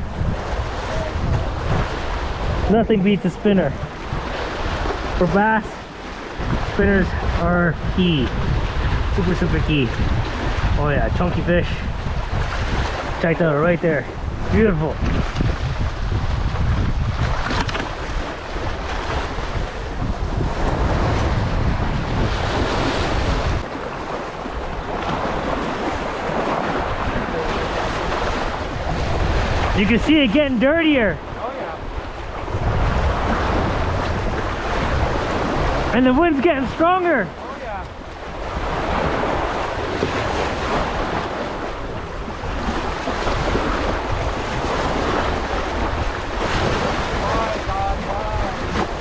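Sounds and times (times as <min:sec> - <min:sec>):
waves washing against rocks: 0:00.0 - 0:49.0
wind buffeting microphone: 0:00.0 - 0:49.0.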